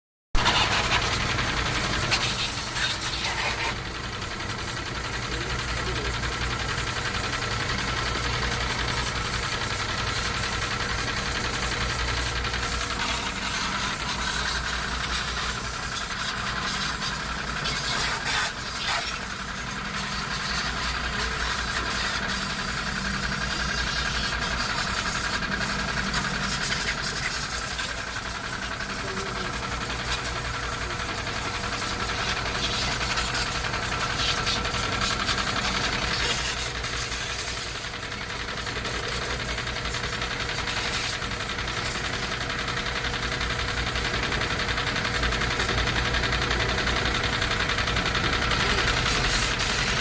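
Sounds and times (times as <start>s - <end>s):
water spraying: 0.4s - 42.7s, 48.4s - 50.0s
motor humming: 0.4s - 50.0s.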